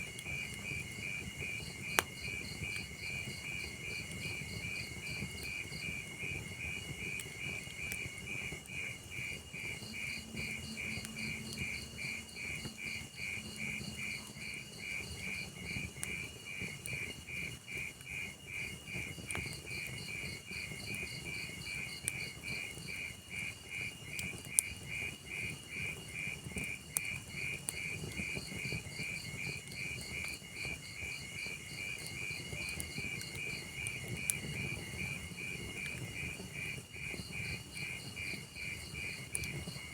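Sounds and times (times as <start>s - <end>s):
burning logs popping: 0.0s - 39.9s
crickets chirping: 0.0s - 39.9s
wood fire crackling: 0.0s - 39.9s.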